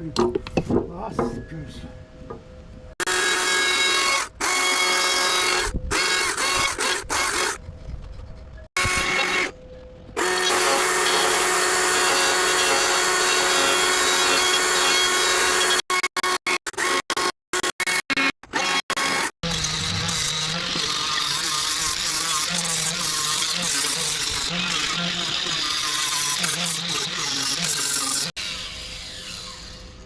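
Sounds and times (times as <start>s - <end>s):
power tool running: 3.0s - 7.6s, 8.8s - 9.5s, 10.2s - 30.0s.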